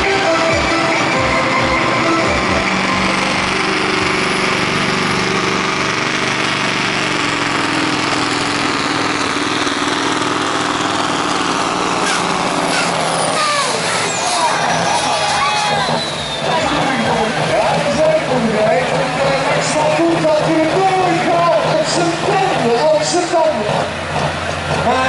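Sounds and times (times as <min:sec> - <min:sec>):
diesel truck engine running flat out: 0:00.0 - 0:25.0.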